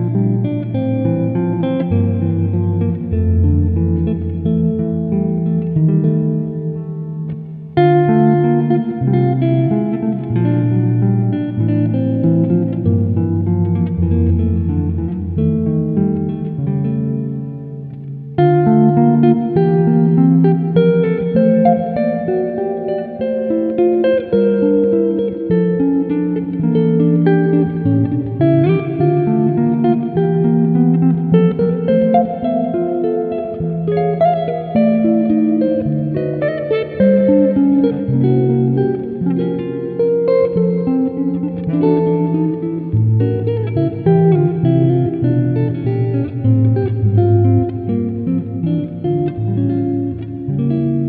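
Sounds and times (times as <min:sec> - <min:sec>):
solo guitar playing: 0:00.0 - 0:51.0.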